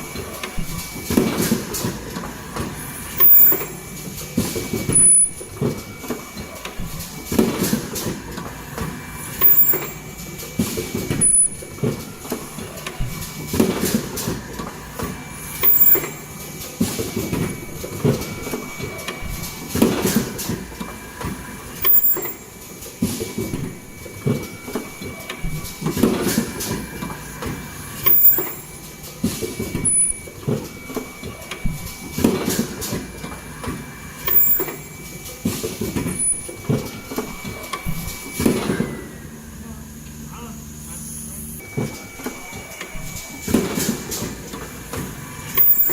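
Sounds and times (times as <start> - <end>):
mechanical clatter of machine: 0.0 - 39.3, 41.0 - 45.9.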